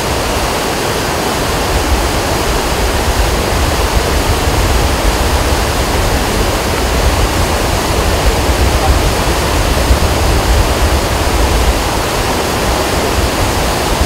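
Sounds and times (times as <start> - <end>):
river in flood roaring: 0.0 - 14.0
deep rumble: 1.5 - 14.0.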